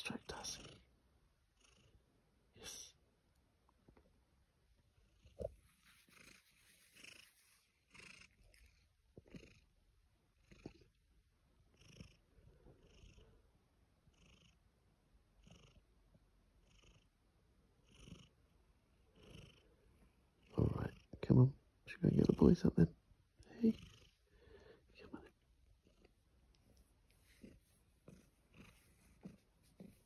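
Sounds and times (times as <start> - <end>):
cat purring: 0.0 - 2.9, 4.7 - 30.0.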